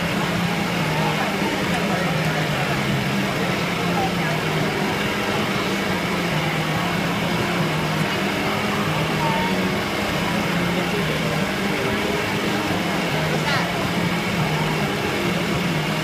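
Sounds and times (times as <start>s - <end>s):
cotton candy machine humming: 0.0s - 16.0s.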